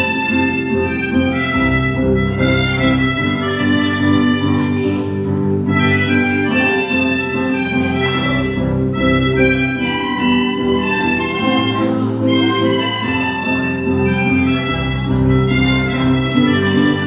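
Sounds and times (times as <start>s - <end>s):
organ-like keyboard music: 0.0s - 17.0s.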